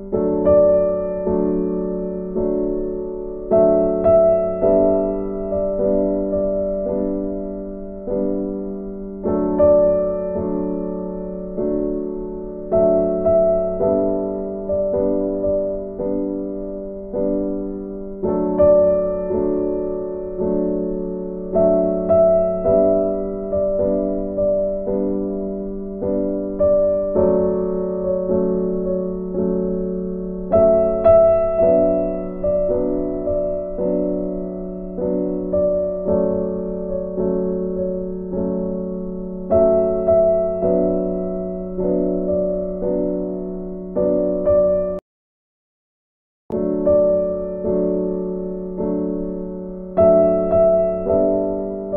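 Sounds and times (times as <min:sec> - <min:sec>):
piano chords ringing: 0:00.0 - 0:45.0, 0:46.5 - 0:51.9.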